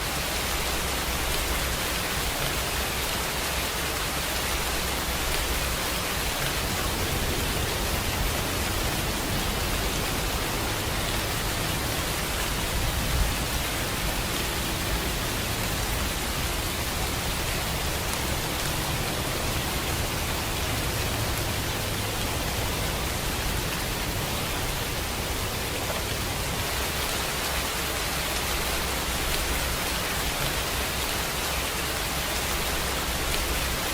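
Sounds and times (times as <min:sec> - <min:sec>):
steady rainfall: 0:00.0 - 0:33.9.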